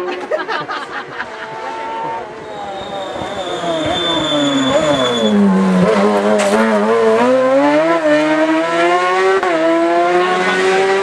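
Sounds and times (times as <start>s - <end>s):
race car engine accelerating: 1.2s - 11.0s.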